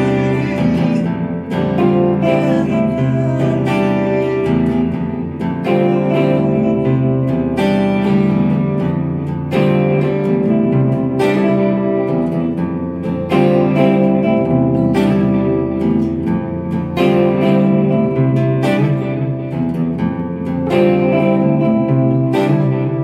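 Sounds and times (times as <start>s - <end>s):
electric guitar duet: 0.0s - 23.0s.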